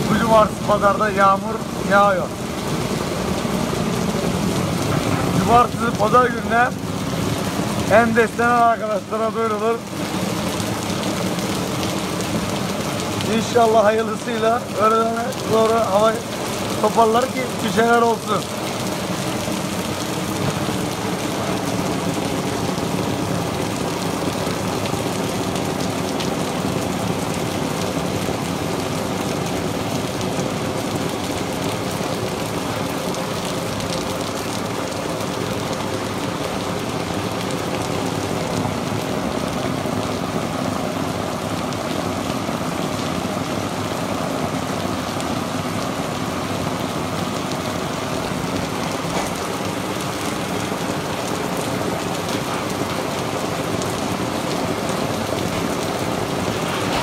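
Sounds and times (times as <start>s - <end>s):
heavy rain on wet paving: 0.0s - 57.0s.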